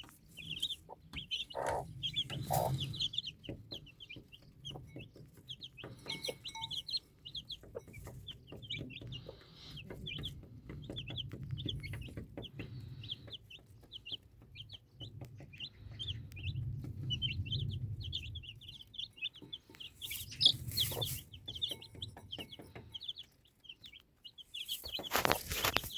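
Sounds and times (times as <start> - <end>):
chicks peeping: 0.0 - 25.9
hen clucking: 0.0 - 25.9.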